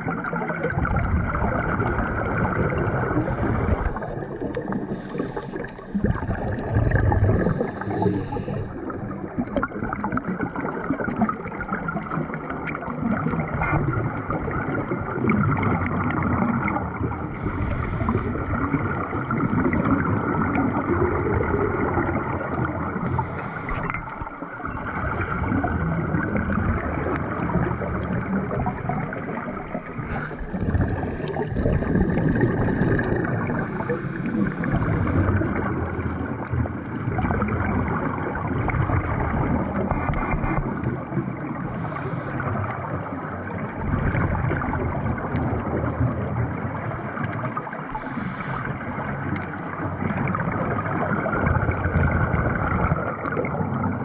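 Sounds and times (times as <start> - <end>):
underwater regulator bubbling: 0.0 - 54.0.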